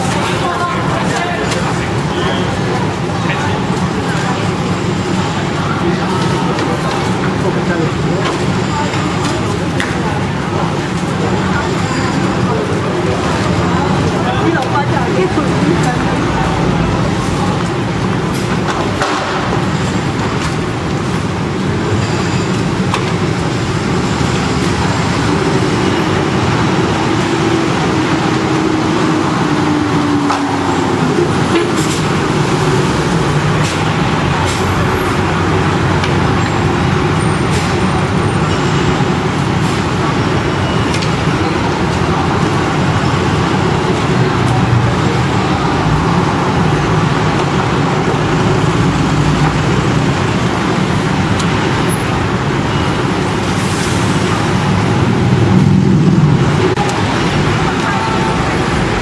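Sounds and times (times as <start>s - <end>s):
heavy street traffic: 0.0s - 59.0s
vehicle low whine: 0.0s - 59.0s.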